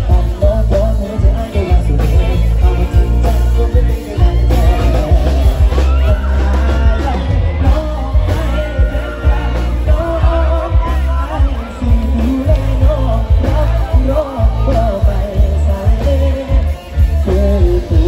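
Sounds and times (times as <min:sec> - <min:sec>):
live rock band playing: 0:00.0 - 0:18.0
man singing through amplifier: 0:00.0 - 0:18.0.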